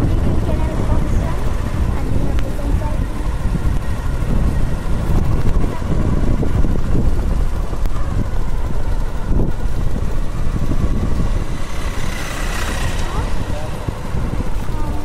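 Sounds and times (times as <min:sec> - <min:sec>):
vehicle moving on road: 0:00.0 - 0:15.0
wind rumble on microphone: 0:00.0 - 0:15.0.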